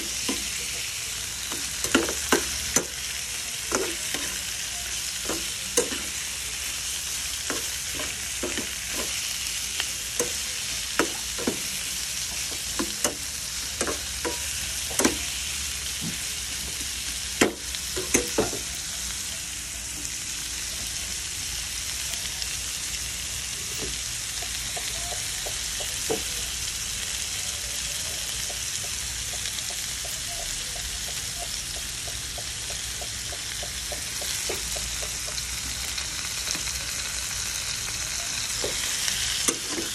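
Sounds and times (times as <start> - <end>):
shrimp sizzling in a pan: 0.0 - 39.9.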